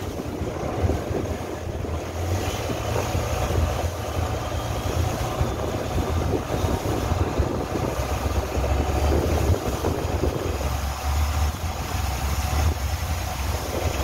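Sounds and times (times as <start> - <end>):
boat engine humming: 0.0 - 14.0
water and wind rushing: 0.0 - 14.0.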